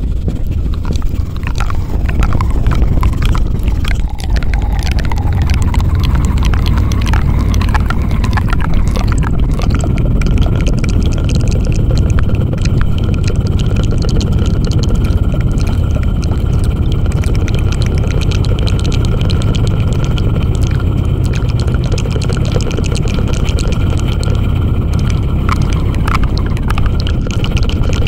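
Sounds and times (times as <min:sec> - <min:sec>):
fast crackling clicks: 0:00.0 - 0:28.0
low rumble on microphone: 0:00.0 - 0:28.0.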